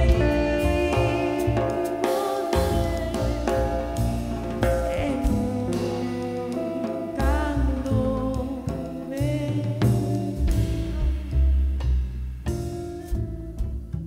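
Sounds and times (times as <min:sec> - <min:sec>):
deep bass line: 0:00.0 - 0:01.9, 0:02.6 - 0:14.0
drum and cymbal hits: 0:00.0 - 0:14.0
live band music: 0:00.0 - 0:14.0.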